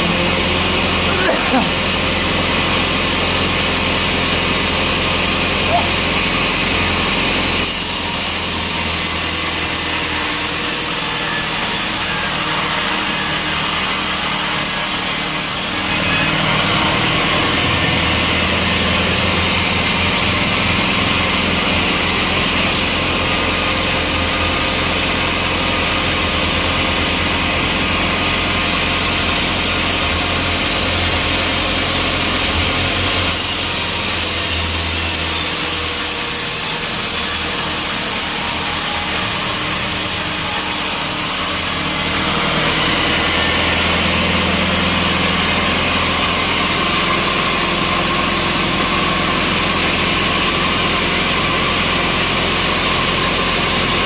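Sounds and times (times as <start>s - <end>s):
saw hissing through log: 0.0s - 26.2s, 26.8s - 54.0s.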